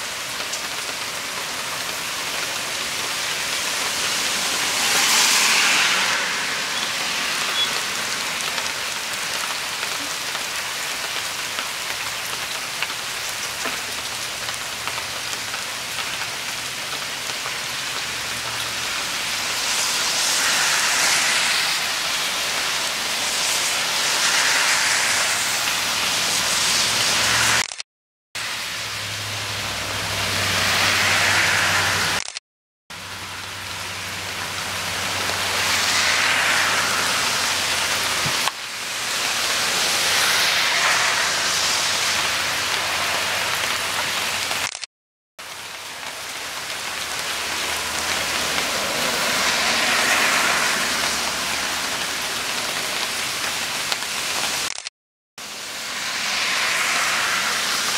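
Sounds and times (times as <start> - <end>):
heavy rain falling: 0.0 - 27.8, 28.4 - 57.9.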